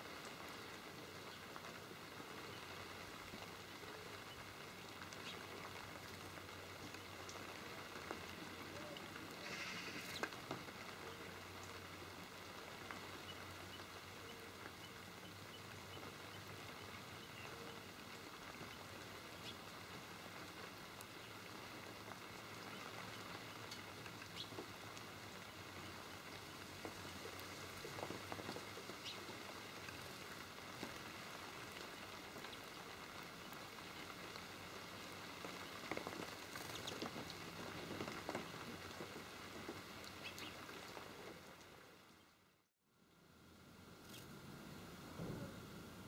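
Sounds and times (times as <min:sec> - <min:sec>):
steady hiss: 0:00.0 - 0:42.2
small ticks and rustles: 0:00.0 - 0:42.3.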